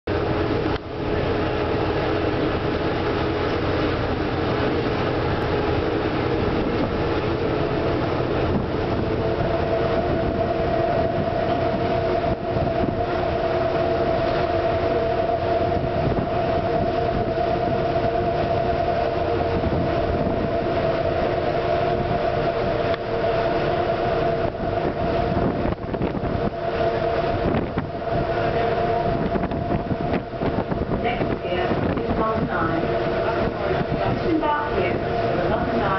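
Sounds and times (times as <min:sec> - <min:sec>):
boat engine droning: 0:00.0 - 0:35.9
steady hum: 0:00.1 - 0:35.9.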